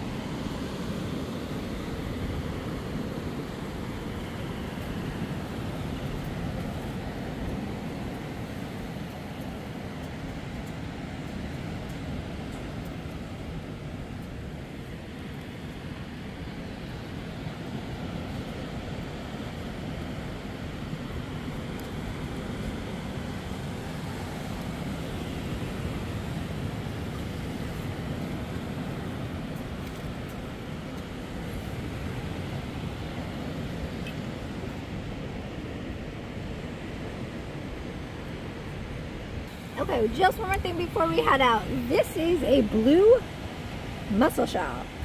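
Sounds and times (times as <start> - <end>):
ocean surf: 0.0 - 45.0
wind: 0.0 - 45.0.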